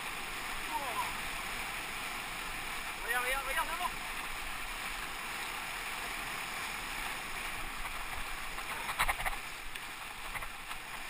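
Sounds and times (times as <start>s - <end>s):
sharp water splashes: 0.0s - 11.0s
whitewater rushing and fizzing: 0.0s - 11.0s.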